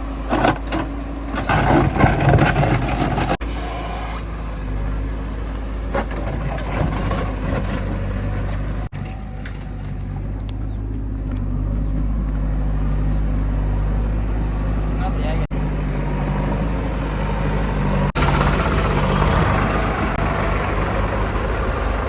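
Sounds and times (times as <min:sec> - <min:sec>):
heavy diesel engine under load: 0:00.0 - 0:22.0.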